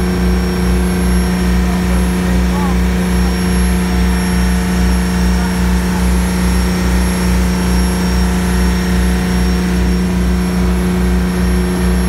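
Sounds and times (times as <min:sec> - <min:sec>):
boat engine droning: 0:00.0 - 0:12.0
churning wake rushing: 0:00.0 - 0:12.0.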